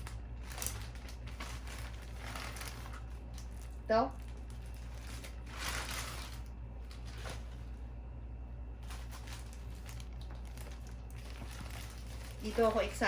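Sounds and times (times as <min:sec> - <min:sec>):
rustling of product packaging: 0:00.0 - 0:07.9, 0:08.7 - 0:13.0
steady low hum: 0:00.0 - 0:13.0.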